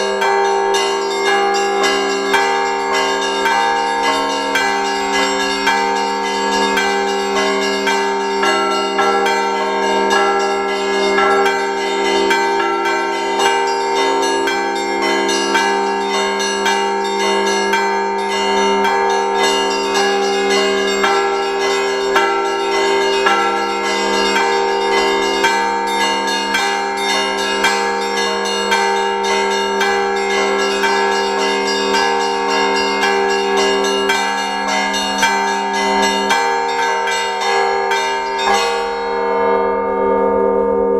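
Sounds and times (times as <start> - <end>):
large bells humming: 0.0 - 40.9
small bells struck rhythmically: 0.0 - 40.9.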